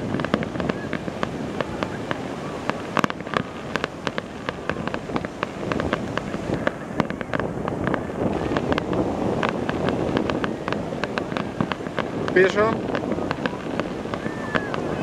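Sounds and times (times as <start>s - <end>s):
fireworks bangs and crackling: 0.0s - 15.0s
low rush: 0.0s - 15.0s.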